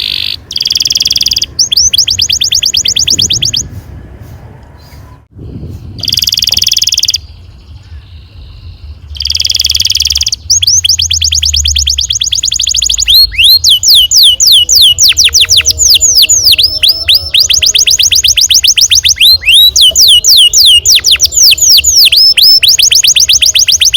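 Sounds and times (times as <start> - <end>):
canary singing: 0.0 - 3.9, 6.0 - 23.9.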